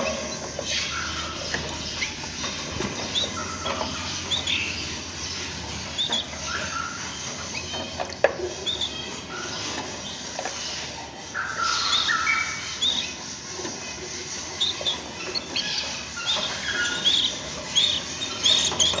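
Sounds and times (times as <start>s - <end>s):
canary chirping: 0.0s - 19.0s.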